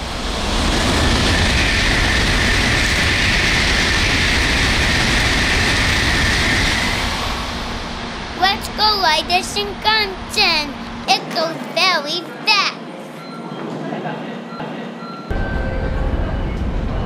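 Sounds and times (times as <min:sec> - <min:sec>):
bullet train passing: 0:00.0 - 0:17.0.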